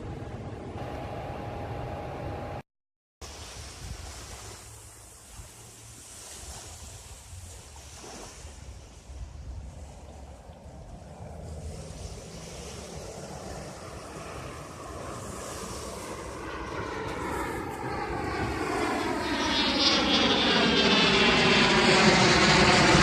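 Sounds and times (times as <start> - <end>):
airplane engine noise: 0.0 - 2.6, 3.2 - 23.0.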